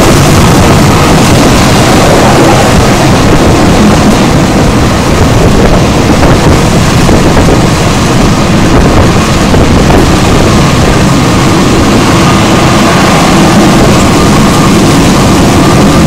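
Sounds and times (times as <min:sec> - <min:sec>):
train rumbling at speed: 0:00.0 - 0:16.0
wind buffeting microphone: 0:00.0 - 0:16.0.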